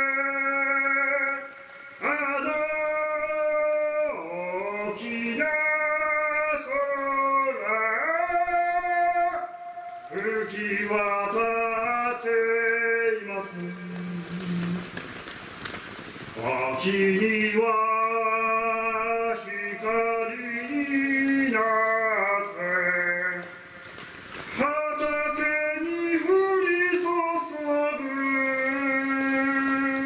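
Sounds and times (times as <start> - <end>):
man singing slow melody: 0.0 - 15.3, 16.3 - 30.0.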